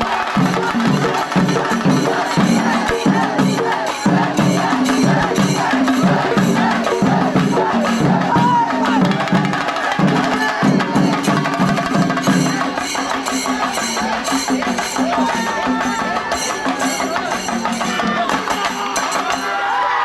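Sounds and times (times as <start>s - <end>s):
drums in fast driving rhythm: 0.0s - 19.8s.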